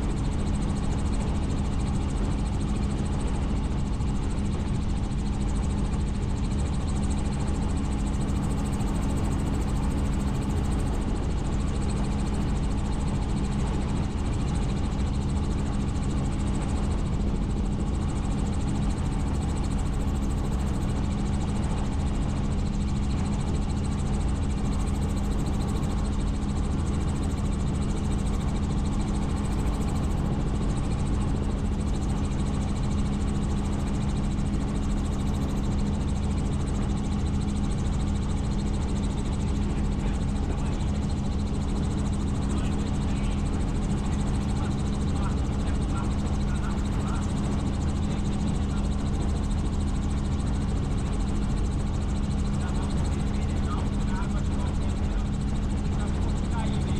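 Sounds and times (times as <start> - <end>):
helicopter engine and rotor drone: 0.0 - 56.9.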